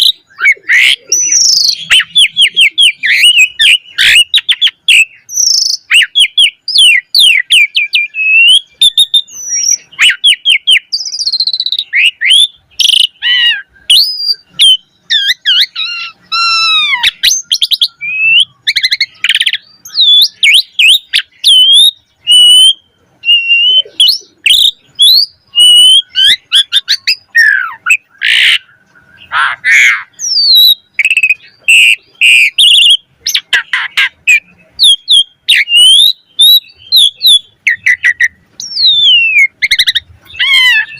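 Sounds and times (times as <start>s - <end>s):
starling singing varied song: 0.0s - 40.9s.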